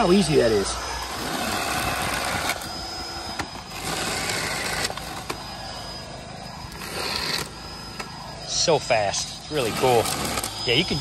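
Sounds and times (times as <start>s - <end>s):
chainsaw cutting branches: 0.0s - 8.5s, 9.2s - 11.0s.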